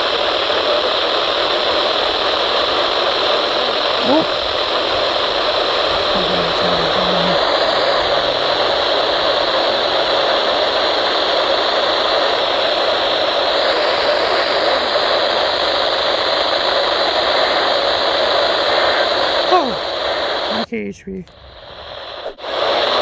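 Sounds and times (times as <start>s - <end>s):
radio static hiss: 0.0s - 21.3s.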